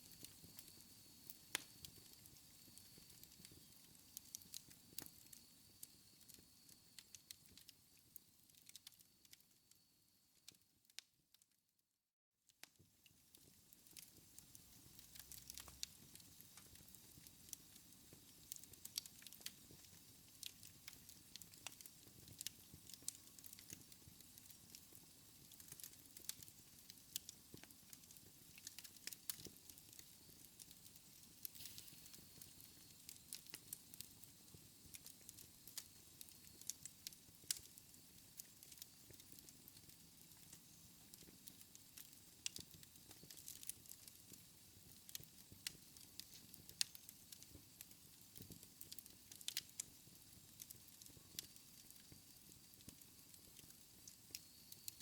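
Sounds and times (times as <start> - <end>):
wood fire crackling: 0.0 - 9.8, 13.1 - 55.0.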